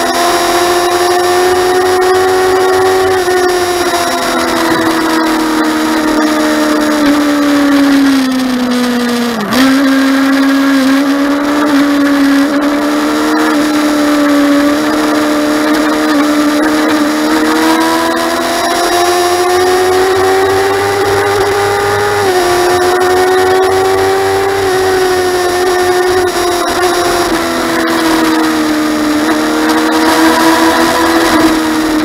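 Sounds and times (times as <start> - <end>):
motorcycle engine running hard: 0.0 - 32.0.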